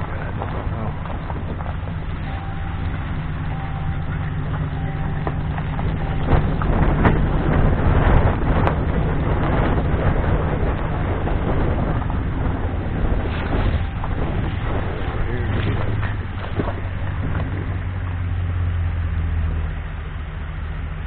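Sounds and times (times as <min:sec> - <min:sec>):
wind buffeting microphone: 0:00.0 - 0:19.6.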